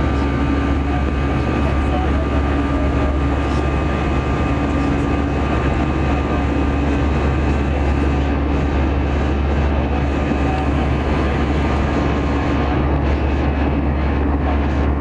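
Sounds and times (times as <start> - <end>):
airliner cabin rumble: 0.0 - 15.0
steady humming tones: 0.0 - 15.0.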